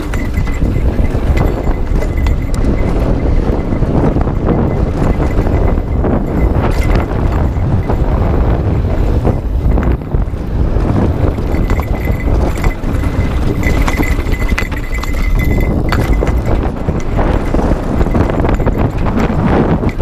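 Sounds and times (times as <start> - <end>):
bike rattling over bumps: 0.0 - 20.0.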